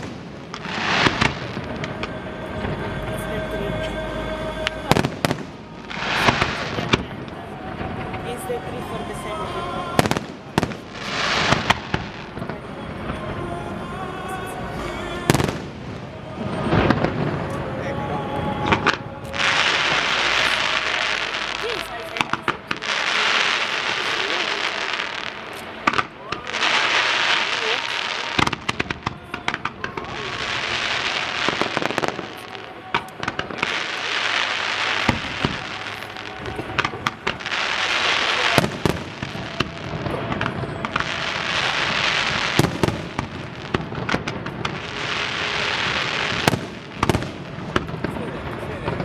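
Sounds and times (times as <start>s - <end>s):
fireworks hiss and cracks: 0.0s - 2.8s, 4.6s - 8.6s, 9.6s - 12.6s, 14.7s - 49.0s
fireworks bangs: 0.0s - 49.0s
music: 0.0s - 49.0s.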